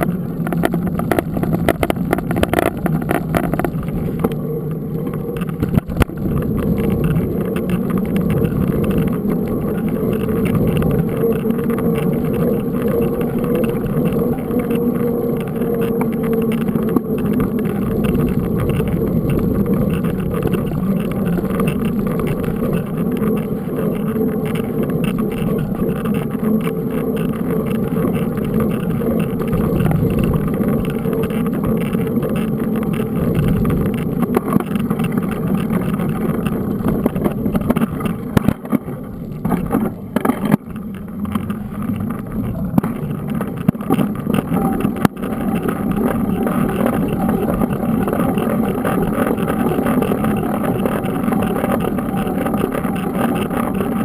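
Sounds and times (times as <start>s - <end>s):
mountain bike tyres rumbling: 0.0s - 54.0s
wind on microphone: 0.0s - 54.0s.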